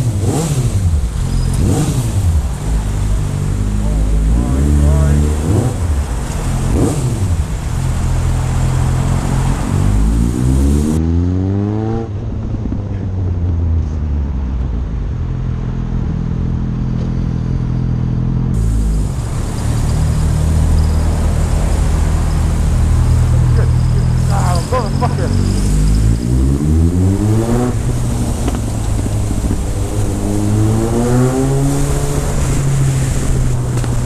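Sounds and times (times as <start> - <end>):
motorcycle engine revving: 0.0 - 12.8, 15.8 - 34.0.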